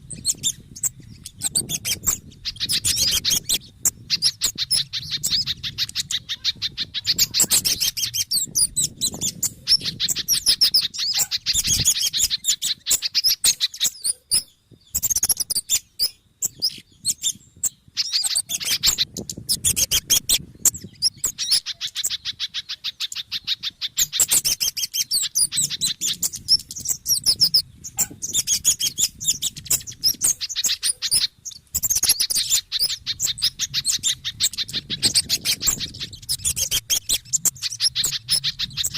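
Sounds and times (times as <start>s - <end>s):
songbirds chipping and twittering: 0.0s - 38.9s.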